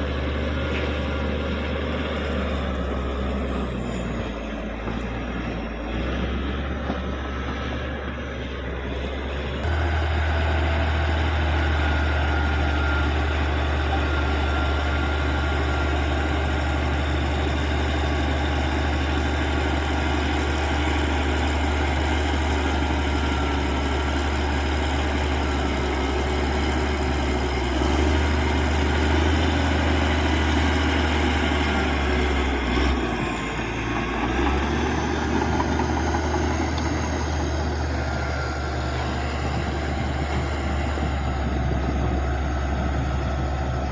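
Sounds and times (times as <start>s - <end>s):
bulldozer diesel engine humming: 0.0s - 43.9s.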